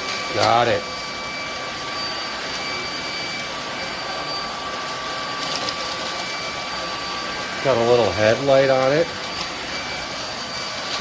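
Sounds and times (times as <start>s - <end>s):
stick vacuum running: 0.0s - 11.0s.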